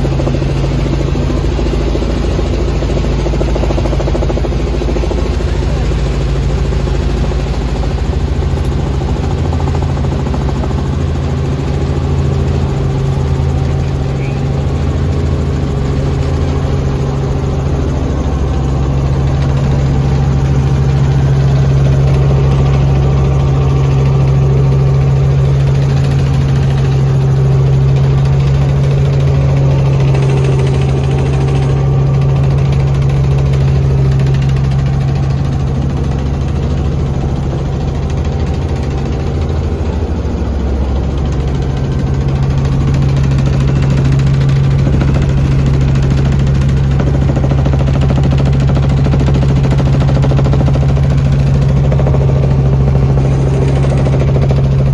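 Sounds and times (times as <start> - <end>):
helicopter engine and rotor drone: 0.0 - 54.9.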